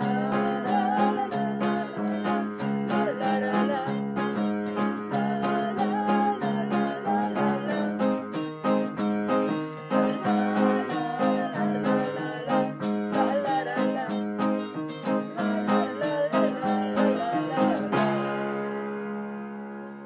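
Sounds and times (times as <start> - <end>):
man singing: 0.0 - 8.4, 9.8 - 18.8
electric guitar chords: 0.0 - 20.0
upright piano chords: 0.0 - 20.0.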